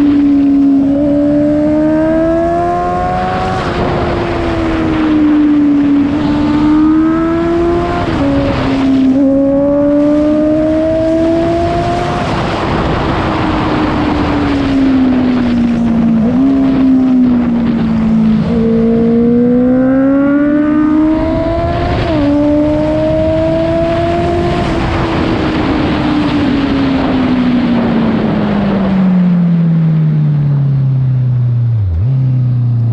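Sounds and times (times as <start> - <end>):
motorcycle engine revving: 0.0 - 28.4.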